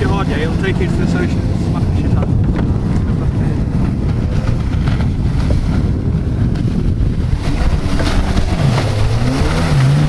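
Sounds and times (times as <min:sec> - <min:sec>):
boat engine running: 0:00.0 - 0:10.0
wind buffeting microphone: 0:00.0 - 0:10.0.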